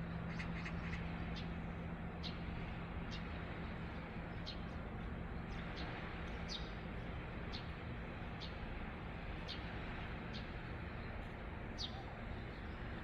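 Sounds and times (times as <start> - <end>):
rushing sea wash: 0.0 - 13.0.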